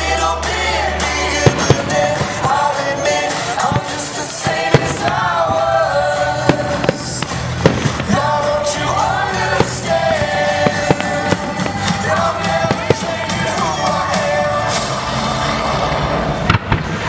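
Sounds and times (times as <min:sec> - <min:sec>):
music with singing voice: 0:00.0 - 0:16.6
fireworks bangs and crackles: 0:00.9 - 0:17.0.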